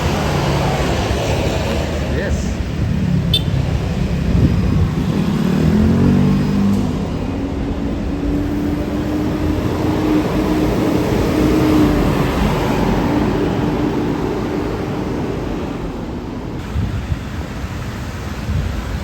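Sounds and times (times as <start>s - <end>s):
vehicle passing by: 0.0s - 17.2s.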